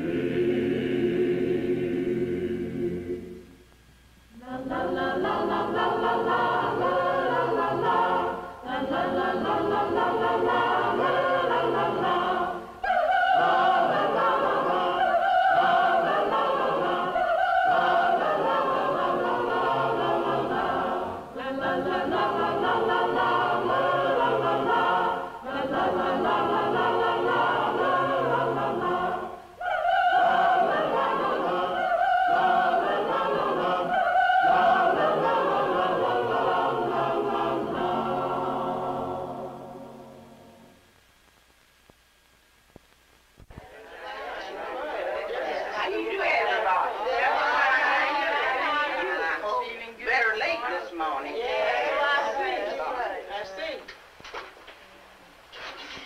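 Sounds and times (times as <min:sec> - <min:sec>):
choir singing: 0:00.0 - 0:03.6, 0:04.3 - 0:40.8, 0:43.6 - 0:53.3.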